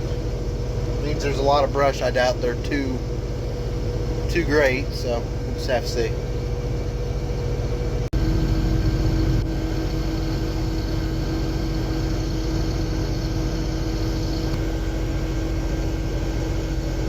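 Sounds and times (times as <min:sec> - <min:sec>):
combine harvester droning: 0:00.0 - 0:17.0
machine whine: 0:00.0 - 0:17.0.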